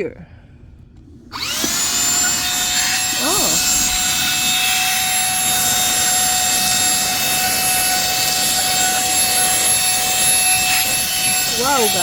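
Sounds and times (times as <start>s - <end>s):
handheld vacuum running: 1.3s - 12.0s.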